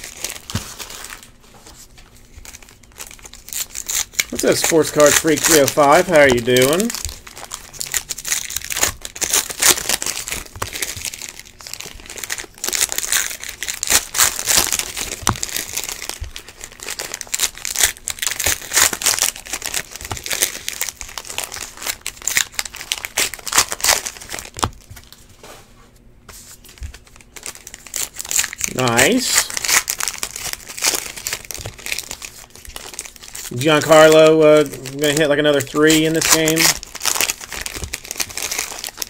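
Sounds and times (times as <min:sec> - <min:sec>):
card pack wrapper crinkling: 0:00.0 - 0:25.2, 0:26.5 - 0:39.0.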